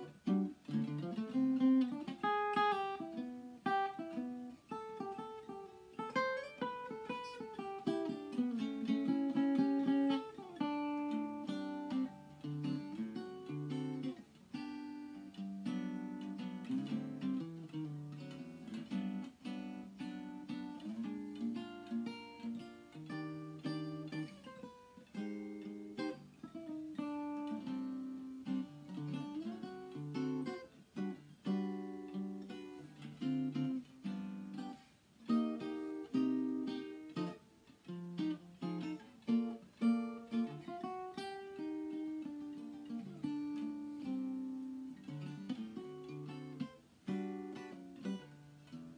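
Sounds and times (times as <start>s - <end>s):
jazz guitar chords and melody: 0.0s - 48.9s.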